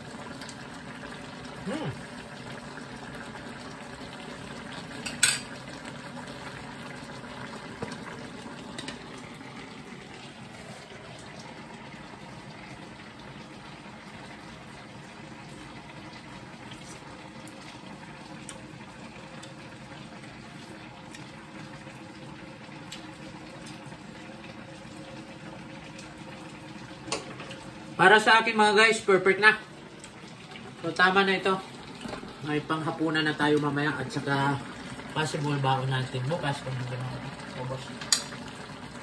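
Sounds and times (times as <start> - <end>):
pan bubbling: 0.0 - 39.0.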